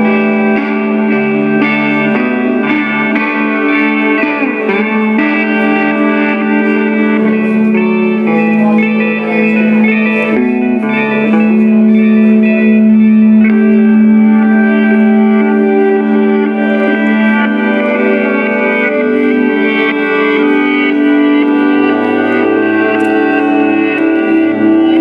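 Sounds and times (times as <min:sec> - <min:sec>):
electric guitar ringing notes: 0:00.0 - 0:25.0
held guitar drone: 0:00.0 - 0:25.0.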